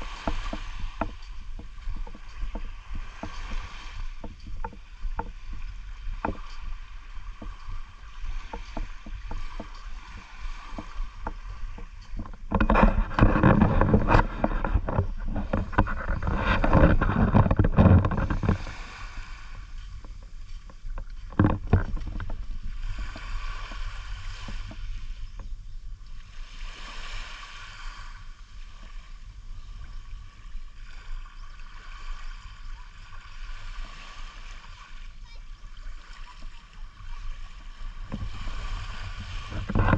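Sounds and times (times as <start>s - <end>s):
waves washing: 0.0s - 39.9s
wind buffeting microphone: 0.0s - 39.9s.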